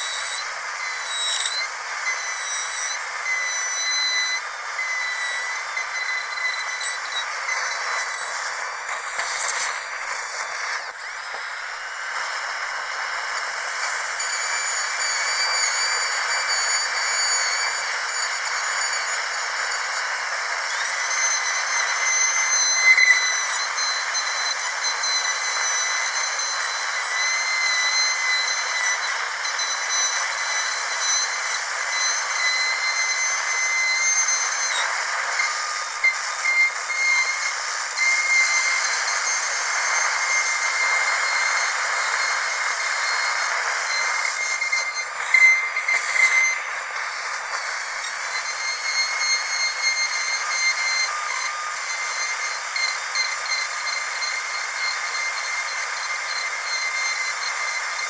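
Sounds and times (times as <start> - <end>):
dental drill whining: 0.0 - 58.0.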